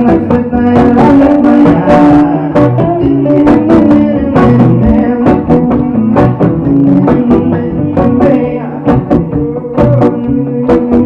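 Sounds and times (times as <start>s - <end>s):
live band playing: 0.0s - 11.0s
strummed guitar chords: 0.0s - 11.0s.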